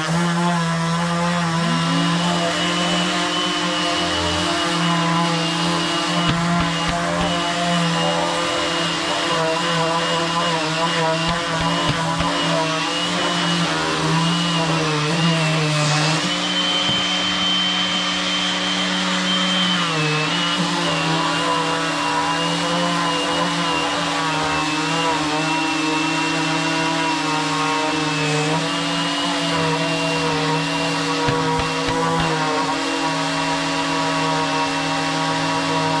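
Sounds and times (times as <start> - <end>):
dust extractor running: 0.0 - 36.0
electric sander on wood: 0.0 - 36.0.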